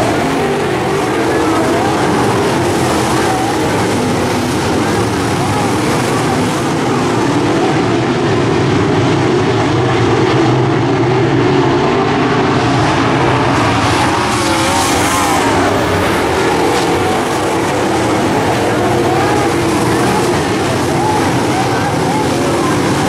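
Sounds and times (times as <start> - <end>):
cars passing by: 0.0 - 23.0
race car engines droning: 0.0 - 23.0.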